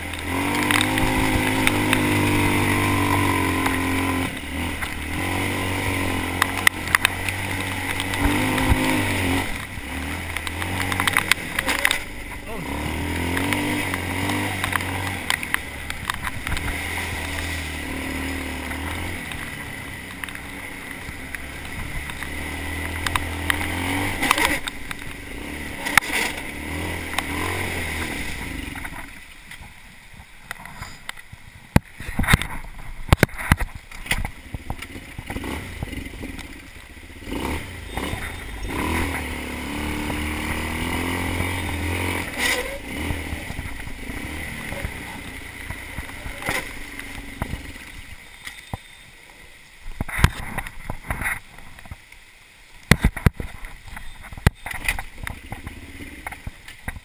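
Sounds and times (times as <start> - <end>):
quad bike engine revving: 0.0 - 29.3, 31.9 - 48.6, 52.9 - 57.0.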